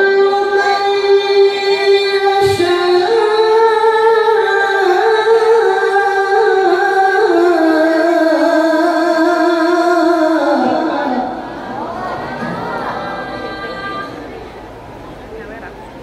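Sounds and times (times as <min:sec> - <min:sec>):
melodic solo recitation through microphone: 0:00.0 - 0:14.6.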